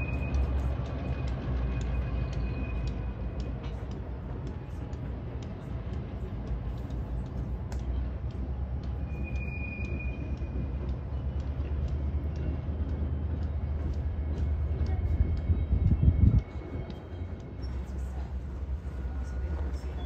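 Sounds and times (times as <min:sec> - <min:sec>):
low rumble of freight trains: 0:00.0 - 0:20.0
faint ticks: 0:00.2 - 0:18.2.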